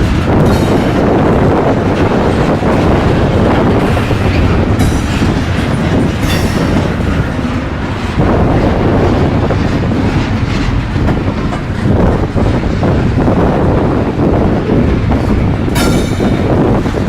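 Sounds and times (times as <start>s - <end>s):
freight train cars rolling past: 0.0s - 17.0s
wheels clacking over rail joints: 0.0s - 17.0s.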